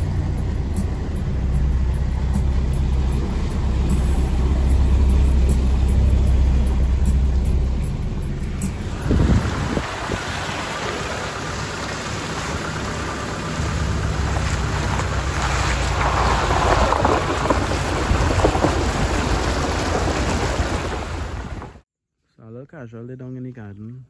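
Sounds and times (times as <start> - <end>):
engine rumble: 0.0 - 21.8
tyres splashing through mud: 0.0 - 21.8.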